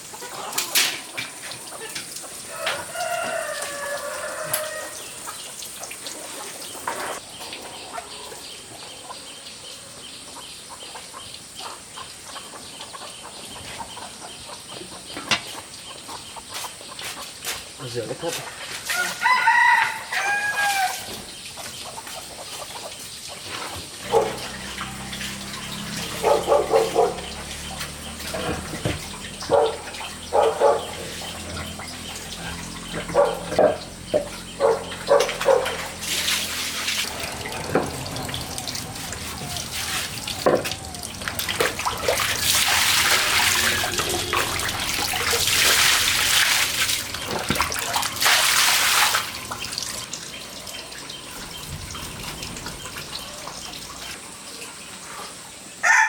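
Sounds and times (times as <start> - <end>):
water running and splashing: 0.0 - 8.6, 16.5 - 55.7
chickens clucking: 0.0 - 9.4, 10.3 - 18.6, 21.0 - 48.2, 50.7 - 54.2.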